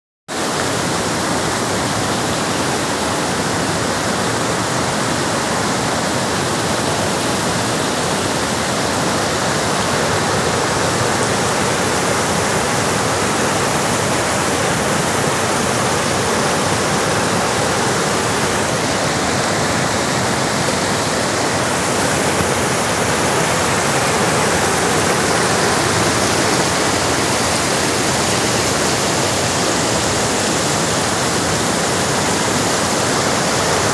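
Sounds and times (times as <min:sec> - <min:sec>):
river rushing over rocks: 0:00.3 - 0:33.9.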